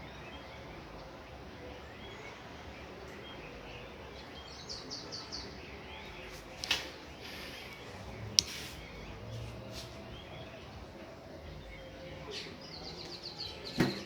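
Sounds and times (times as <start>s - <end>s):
birds chirping: 0.0s - 14.0s
low background noise: 0.0s - 14.0s.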